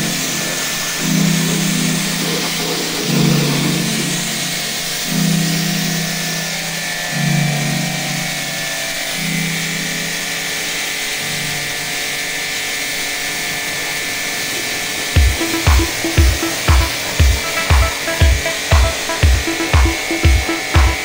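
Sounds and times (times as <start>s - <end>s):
pressure washer motor hum: 0.0s - 21.0s
pressure washer water jet hissing: 0.0s - 21.0s.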